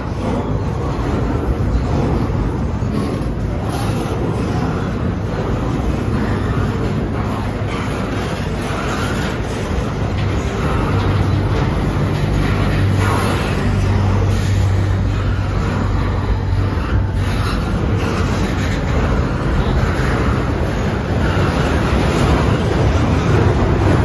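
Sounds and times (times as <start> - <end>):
low hum: 0.0 - 24.0
steel wheels running on rails: 0.0 - 24.0.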